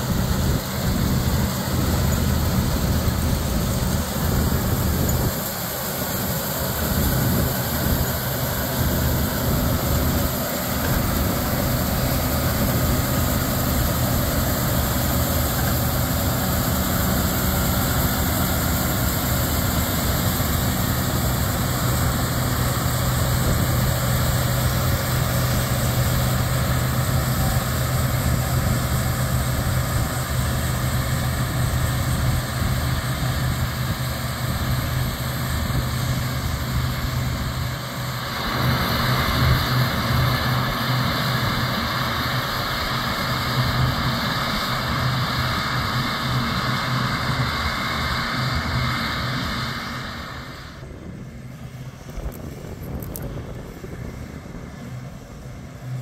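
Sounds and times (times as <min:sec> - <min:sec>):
combine harvester running under load: 0:00.0 - 0:56.0.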